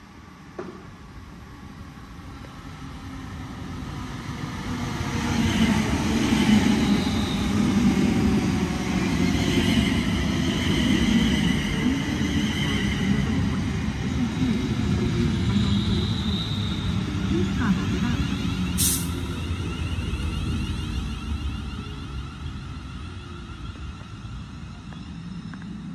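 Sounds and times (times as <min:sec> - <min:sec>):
train wheels rumbling on rails: 0:00.5 - 0:25.9.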